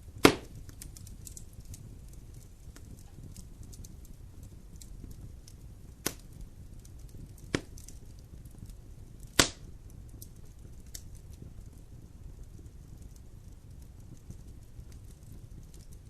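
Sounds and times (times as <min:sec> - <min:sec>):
fire crackling: 0:00.0 - 0:16.0
rush of flames: 0:00.0 - 0:16.0
sharp pops from fire: 0:00.0 - 0:16.0.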